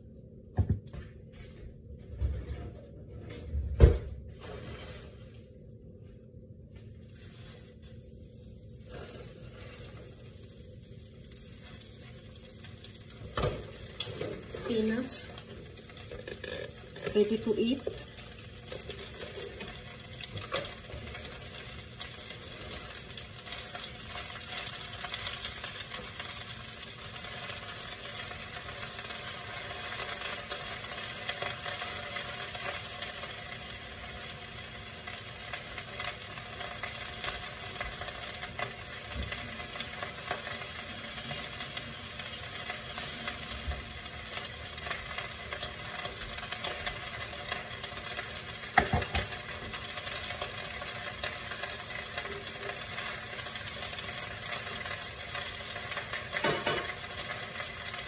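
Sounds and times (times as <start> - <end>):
oil sizzling in a frying pan: 7.2 - 58.0.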